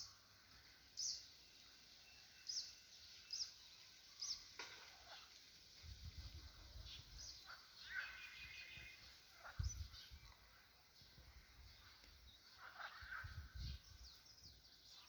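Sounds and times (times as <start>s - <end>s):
faint wild birds chirping: 0.0s - 15.0s.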